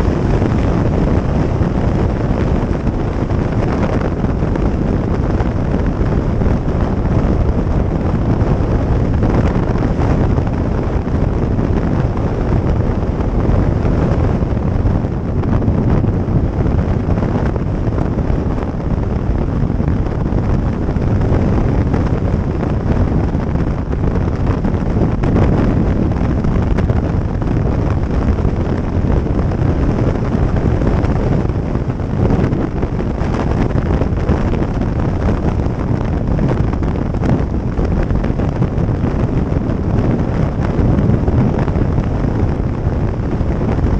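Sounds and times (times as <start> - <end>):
motorcycle engine and road noise: 0.0 - 43.9
wind rush on microphone: 0.0 - 43.9.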